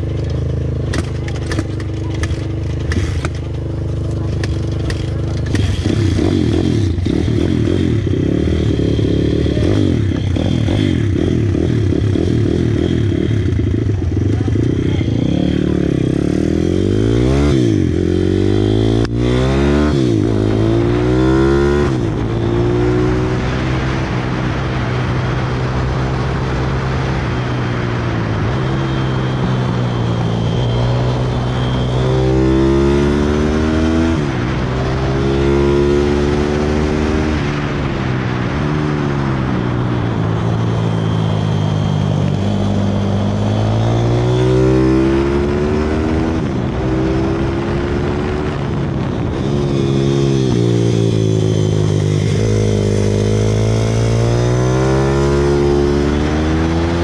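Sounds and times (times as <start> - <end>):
pit bike engine revving: 0.0 - 24.8, 28.5 - 37.7, 42.2 - 57.0.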